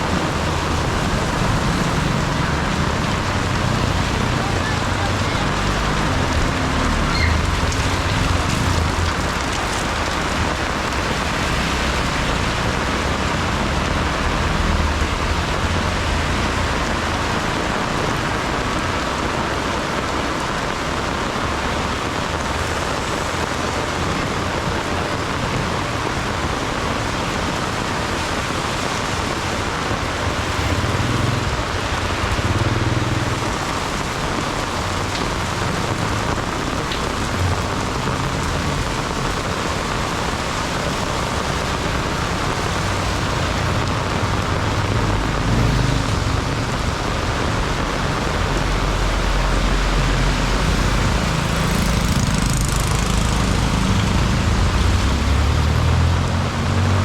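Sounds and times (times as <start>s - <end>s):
heavy rain pouring: 0.0s - 57.0s
low rumble of passing vehicles: 0.0s - 57.0s.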